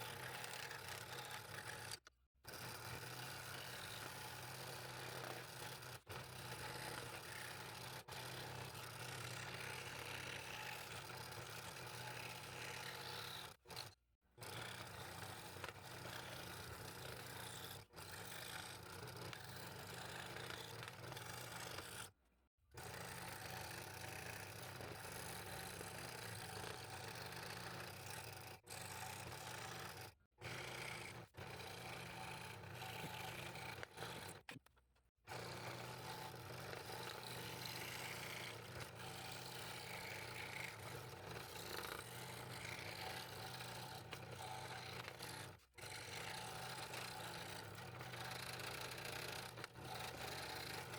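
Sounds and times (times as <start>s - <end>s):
scroll saw cutting wood: 0.0s - 22.2s, 22.8s - 50.9s.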